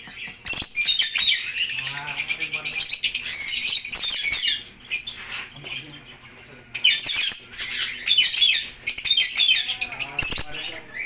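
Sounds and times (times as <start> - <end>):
lovebirds squawking: 0.0 - 11.0.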